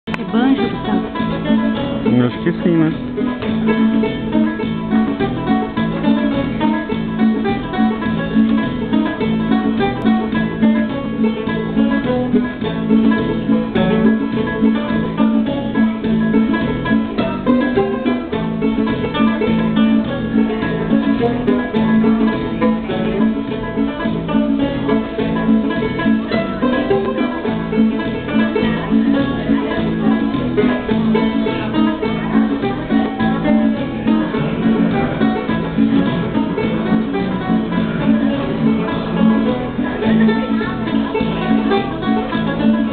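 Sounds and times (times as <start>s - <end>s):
banjo plucked notes: 0.0s - 42.9s.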